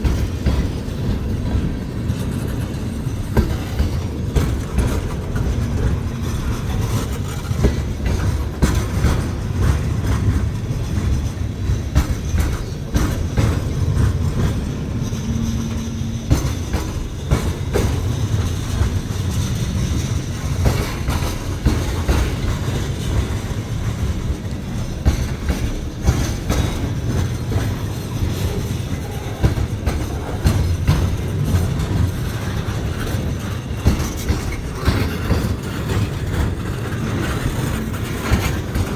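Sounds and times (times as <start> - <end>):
railcars rumbling past: 0.0 - 38.9
wheels clicking over rail joints: 0.0 - 38.9.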